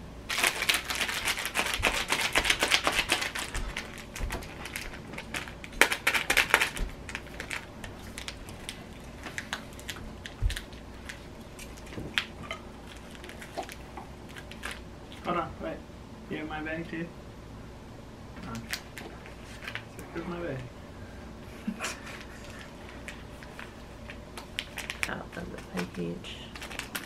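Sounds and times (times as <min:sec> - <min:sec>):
plastic sachets rattling and crinkling: 0:00.3 - 0:15.3, 0:18.5 - 0:20.6, 0:21.9 - 0:27.0.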